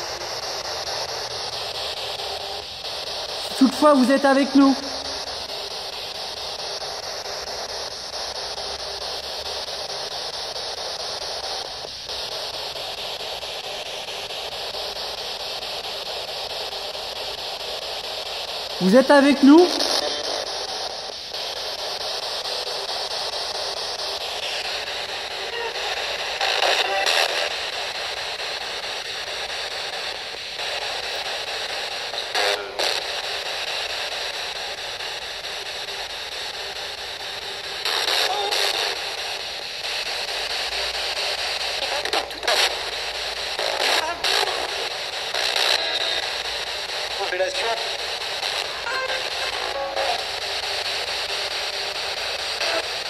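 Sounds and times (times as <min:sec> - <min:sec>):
radio broadcast snatches: 0:00.0 - 0:53.0
radio static hiss: 0:00.0 - 0:53.0.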